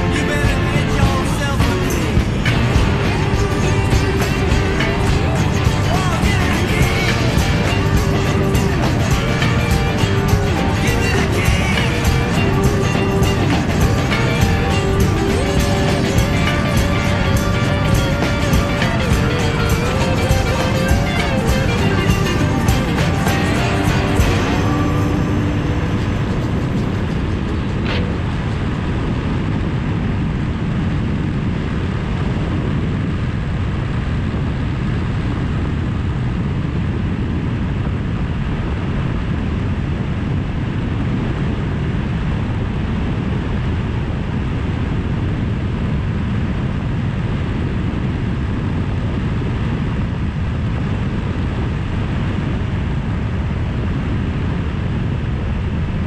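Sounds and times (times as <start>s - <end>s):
motorcycle engine and road noise: 0.0s - 56.0s
wind rushing on microphone: 0.0s - 56.0s.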